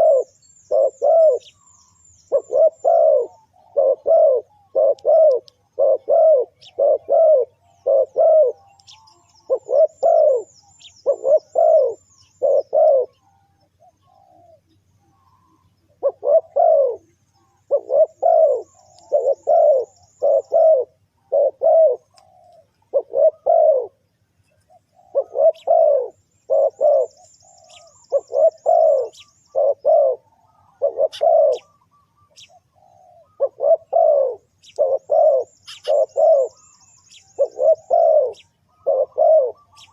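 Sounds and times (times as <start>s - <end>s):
small bird twittering: 0.0s - 23.9s, 24.5s - 39.9s
dove cooing: 0.0s - 39.9s.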